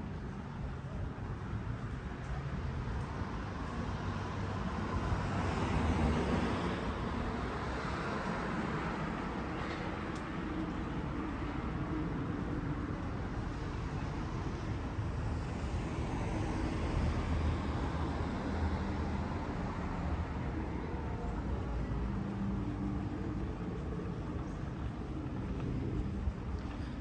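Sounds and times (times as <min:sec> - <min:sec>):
low engine rumble: 0:00.0 - 0:27.0
passing vehicles: 0:00.0 - 0:27.0.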